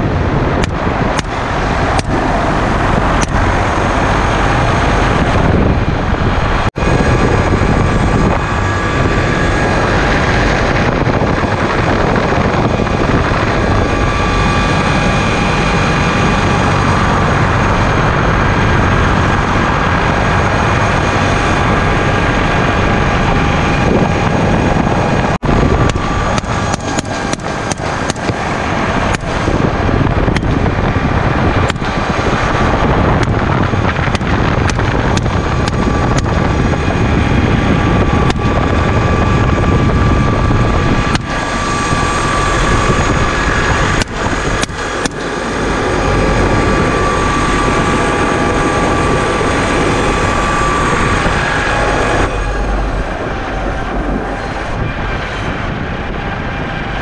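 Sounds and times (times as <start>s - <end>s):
helicopter turbine and rotor: 0.0s - 57.0s.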